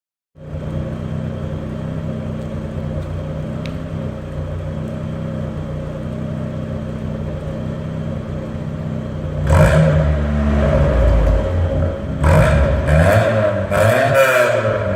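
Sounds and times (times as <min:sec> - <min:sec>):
car engine idling and revving: 0:00.4 - 0:14.9.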